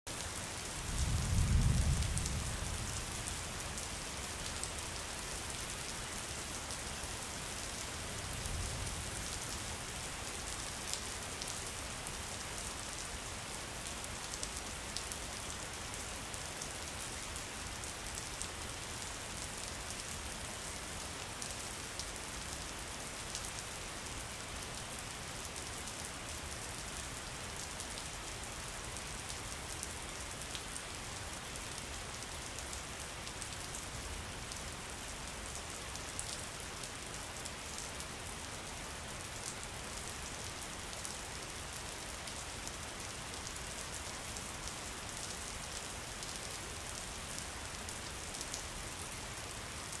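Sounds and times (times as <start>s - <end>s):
steady rain: 0.1s - 50.0s.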